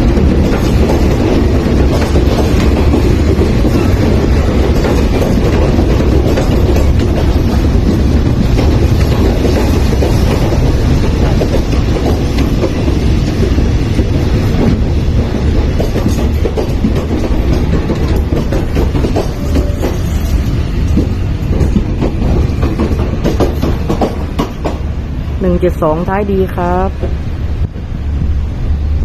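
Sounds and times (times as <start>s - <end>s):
wheels clattering over rail joints: 0.0s - 25.3s
train carriages rumbling past: 0.0s - 29.0s.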